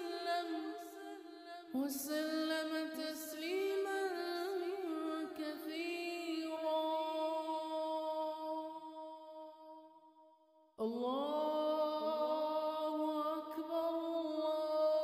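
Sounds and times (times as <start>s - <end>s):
solo voice chanting: 0.0s - 10.0s, 10.8s - 15.0s.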